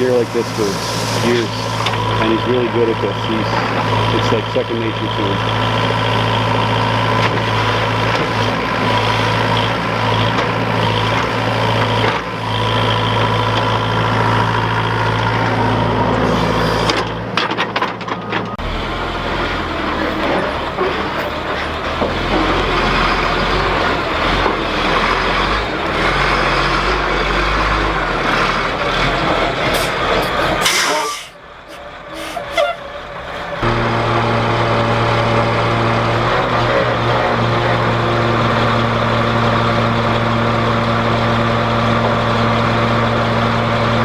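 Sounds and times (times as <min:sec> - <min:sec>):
diesel engine under load: 0:00.0 - 0:44.0.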